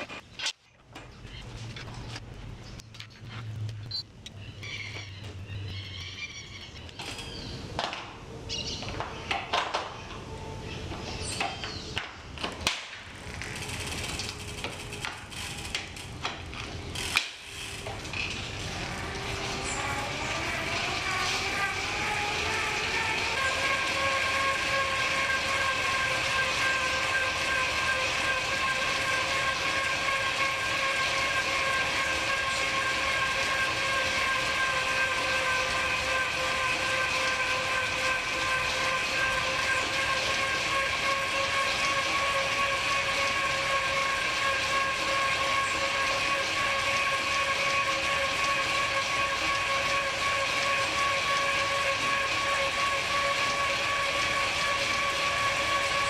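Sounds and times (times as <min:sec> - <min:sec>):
bike trainer whine: 0:00.0 - 0:56.0.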